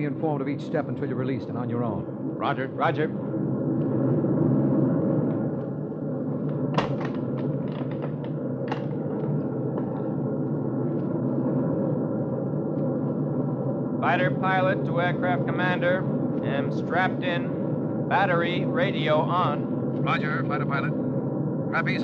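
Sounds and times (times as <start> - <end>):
aircraft engines droning: 0.0 - 22.0.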